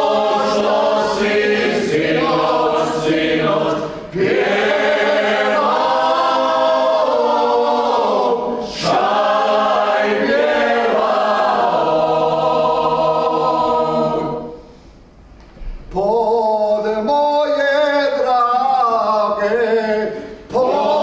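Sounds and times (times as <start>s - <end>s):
vocal group singing unaccompanied: 0.0s - 14.8s, 15.9s - 21.0s.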